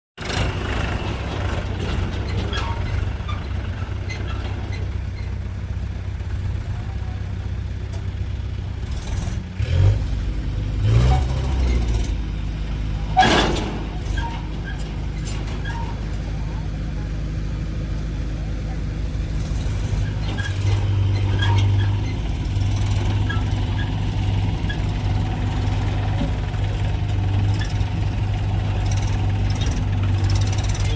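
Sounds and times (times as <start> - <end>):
heavy diesel engine revving: 0.2 - 30.9.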